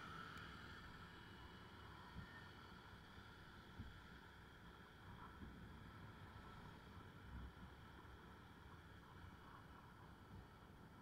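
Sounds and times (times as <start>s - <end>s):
muffled wind and road noise: 0.0s - 11.0s.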